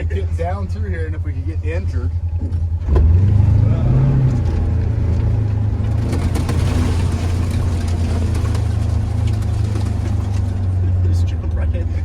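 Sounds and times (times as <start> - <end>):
road rumble: 0.0 - 12.0
vehicle engine droning: 0.0 - 12.0.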